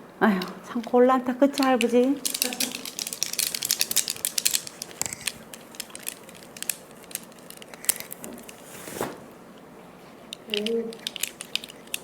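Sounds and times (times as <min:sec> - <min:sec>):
small hard objects clicking: 0:00.3 - 0:08.6, 0:10.3 - 0:12.0.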